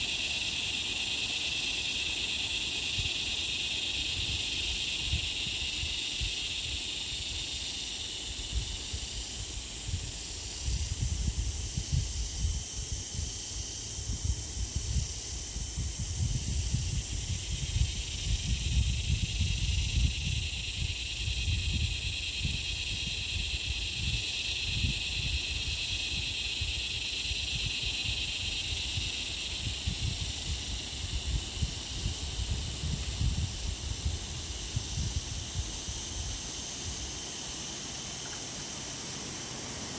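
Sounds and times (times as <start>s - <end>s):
high insect drone: 0.0s - 39.9s
pulsing insect chirp: 0.0s - 39.9s.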